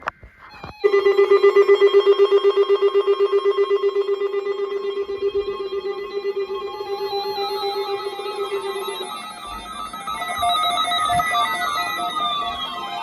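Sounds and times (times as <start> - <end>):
pulsing weather radio alert tone: 0.4 - 13.0.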